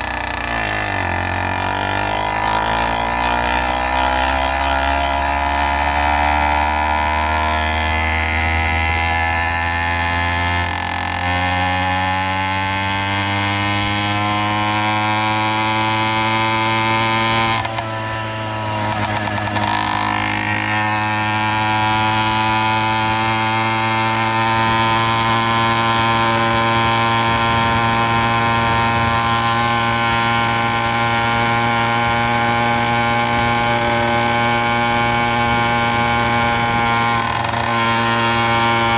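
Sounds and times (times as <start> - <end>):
small motorbike engine running: 0.0 - 38.9.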